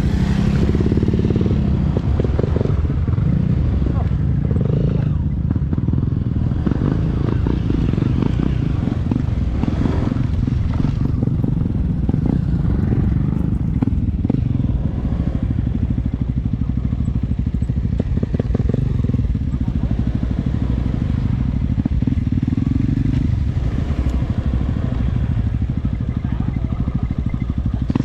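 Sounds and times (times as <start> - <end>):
motorcycle engine rumble: 0.0 - 28.0.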